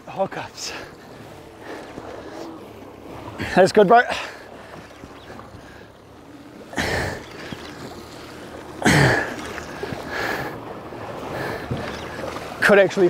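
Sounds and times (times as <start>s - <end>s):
water splashing against hull: 0.0s - 13.0s.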